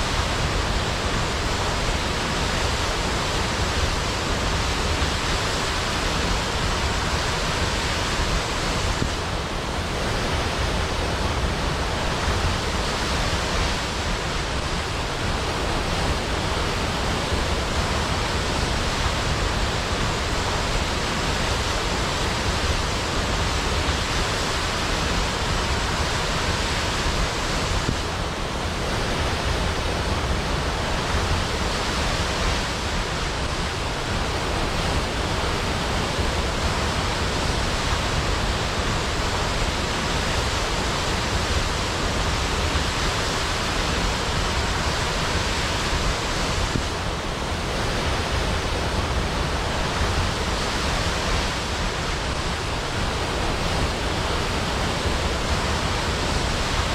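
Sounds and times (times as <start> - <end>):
waterfall crashing: 0.0 - 56.9.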